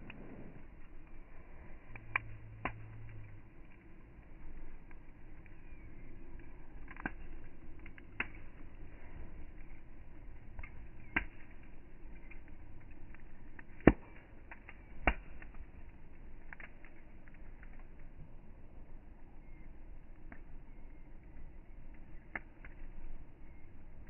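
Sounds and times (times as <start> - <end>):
sharp pops of fire: 0.0 - 18.3, 21.9 - 23.7
campfire crackling: 0.0 - 24.0.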